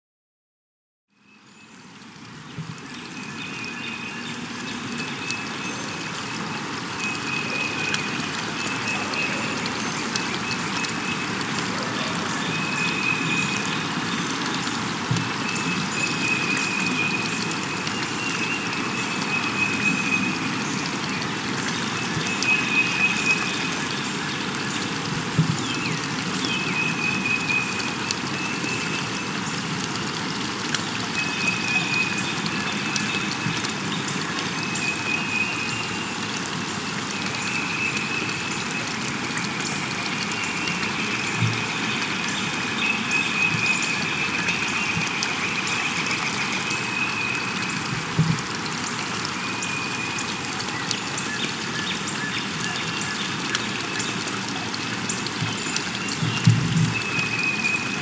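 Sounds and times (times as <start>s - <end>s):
steady hiss like rain: 1.1s - 58.0s.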